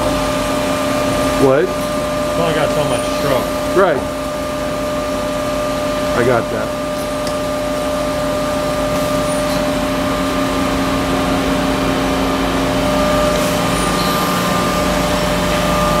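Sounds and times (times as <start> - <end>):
bandsaw running with whine: 0.0 - 16.0.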